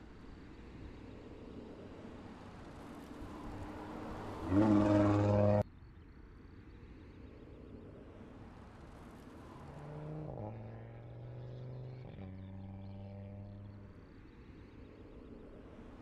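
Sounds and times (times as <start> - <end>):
faint car engine running: 0.0 - 16.0.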